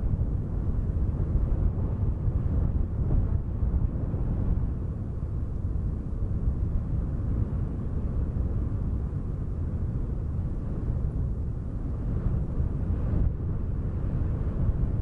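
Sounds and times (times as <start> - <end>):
wind blowing low rumble: 0.0 - 15.0.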